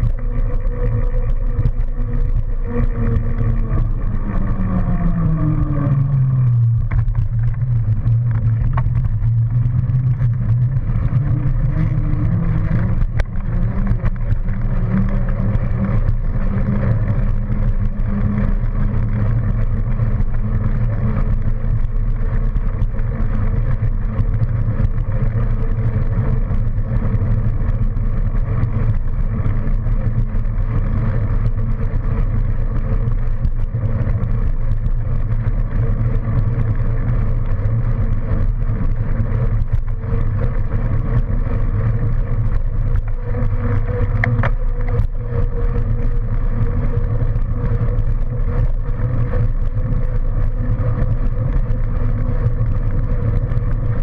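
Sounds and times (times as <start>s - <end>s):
wind and road rumble: 0.0s - 54.0s.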